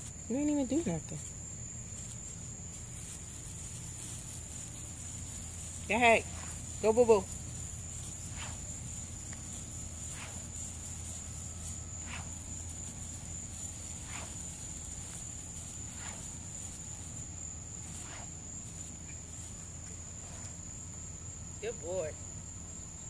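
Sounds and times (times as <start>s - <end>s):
night insects trilling: 0.0s - 23.0s.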